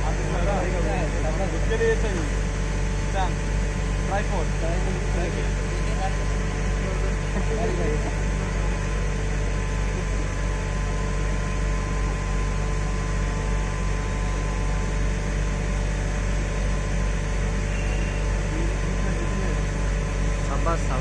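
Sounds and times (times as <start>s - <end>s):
heavy machinery droning: 0.0s - 21.0s.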